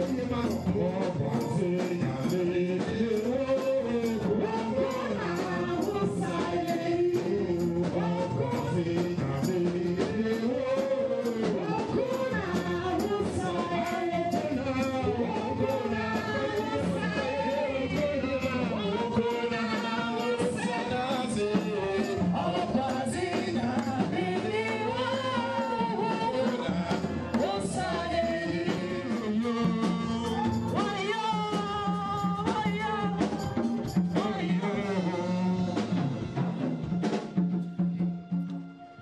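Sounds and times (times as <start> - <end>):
voices singing: 0.0 - 36.9
instrumental accompaniment: 0.0 - 39.0.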